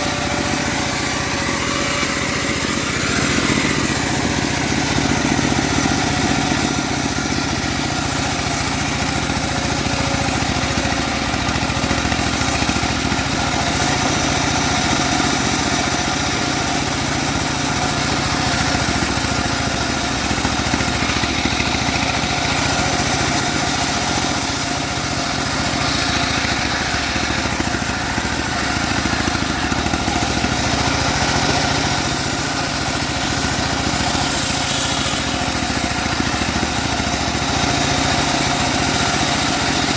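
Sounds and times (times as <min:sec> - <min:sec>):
bandsaw mill engine drone: 0:00.0 - 0:39.9
saw blade hissing: 0:00.0 - 0:39.9.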